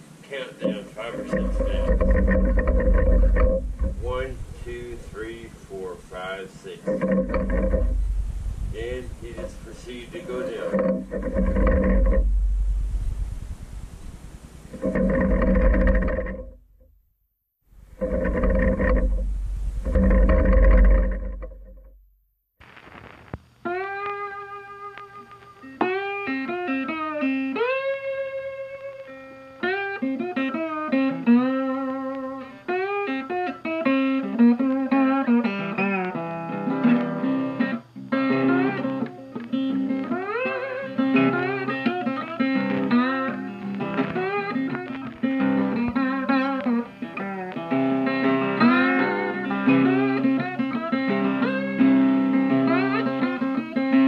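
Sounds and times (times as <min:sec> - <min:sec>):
guitar music with bending notes: 0:00.0 - 0:13.3, 0:14.6 - 0:16.6, 0:17.8 - 0:21.9, 0:23.6 - 0:54.0.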